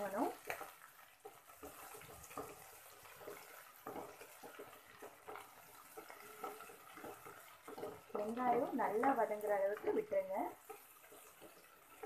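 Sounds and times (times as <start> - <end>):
onions sizzling in oil: 0.0 - 12.0
wooden spatula scraping pan: 0.0 - 12.0.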